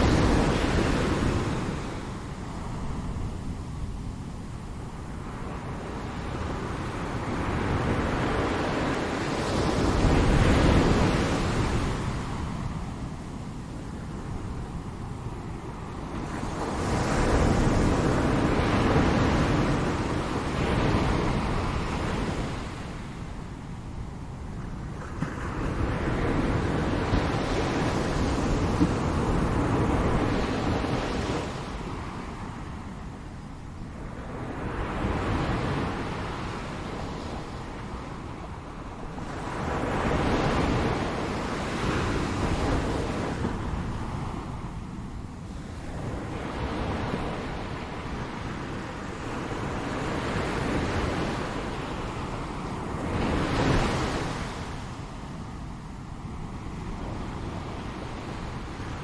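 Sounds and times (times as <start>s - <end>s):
ocean waves breaking on shore: 0.0s - 59.0s
wind rumble on microphone: 0.0s - 59.0s.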